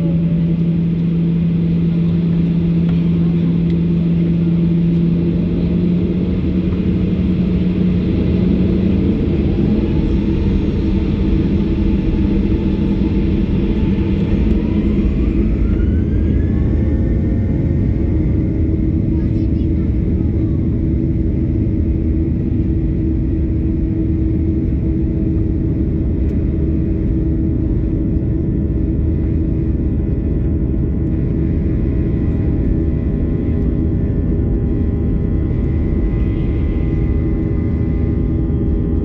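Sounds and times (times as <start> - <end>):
airplane cabin rumble and hum: 0.0 - 39.0
jet engine whine rising: 0.0 - 39.0.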